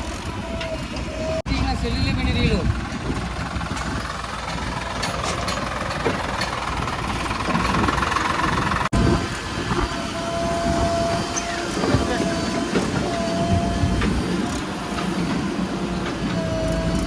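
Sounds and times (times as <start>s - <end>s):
heavy diesel machinery running: 0.0s - 17.0s
machinery clatter: 0.1s - 10.0s, 10.7s - 17.0s.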